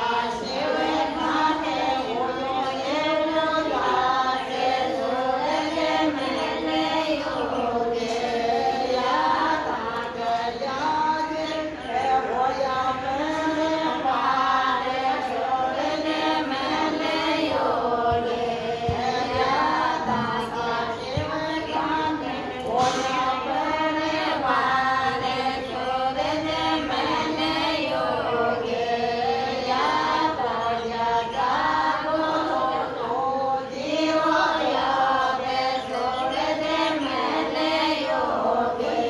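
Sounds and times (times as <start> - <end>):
women singing a chant-like song: 0.0 - 39.0.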